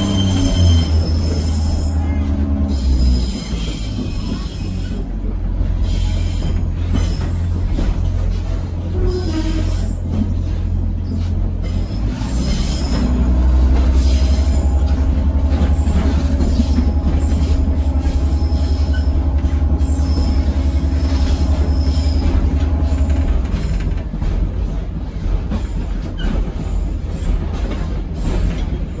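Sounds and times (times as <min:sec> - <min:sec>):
train wheels squealing: 0:00.0 - 0:05.1, 0:05.8 - 0:07.6, 0:08.9 - 0:24.0, 0:25.5 - 0:28.9
diesel engine droning: 0:00.0 - 0:09.2, 0:10.1 - 0:24.7.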